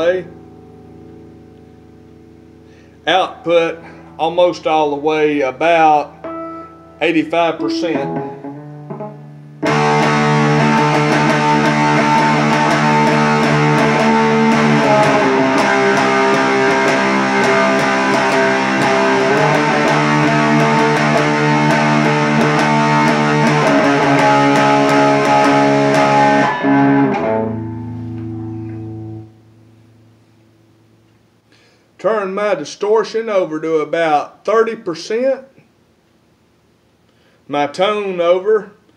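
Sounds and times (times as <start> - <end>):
distorted electric guitar chords: 0.0 - 31.4.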